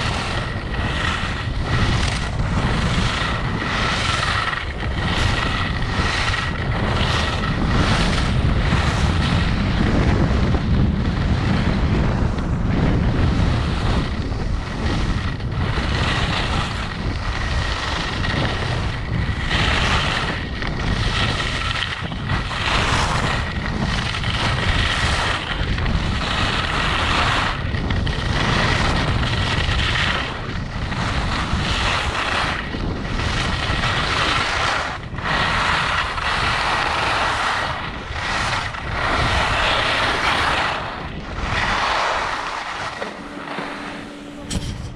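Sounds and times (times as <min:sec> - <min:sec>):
skis scraping over snow: 0:00.0 - 0:44.9
wind on microphone: 0:00.0 - 0:44.9.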